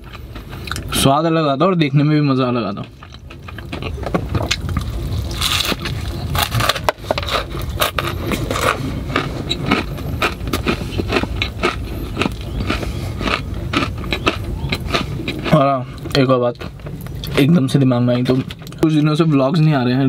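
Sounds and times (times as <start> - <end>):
chewing with wet crunches: 0.0 - 1.0, 2.6 - 19.2.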